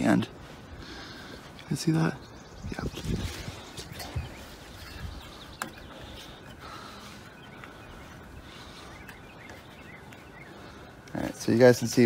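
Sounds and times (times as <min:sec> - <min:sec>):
faint bird chirps: 0:00.9 - 0:12.0.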